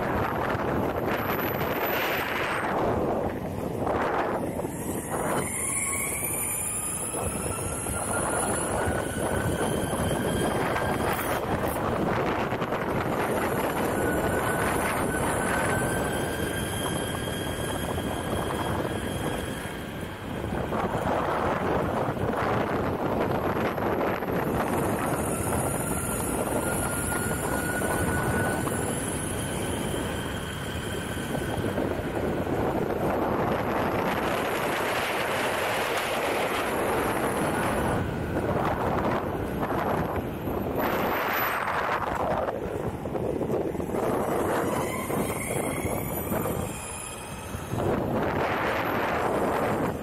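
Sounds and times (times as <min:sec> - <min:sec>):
wheels rolling on asphalt: 0:00.0 - 0:50.0
wind on microphone: 0:00.0 - 0:50.0.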